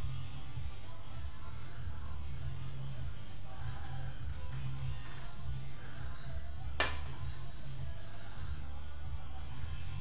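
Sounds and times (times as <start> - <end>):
background music with heavy bass: 0.0 - 10.0.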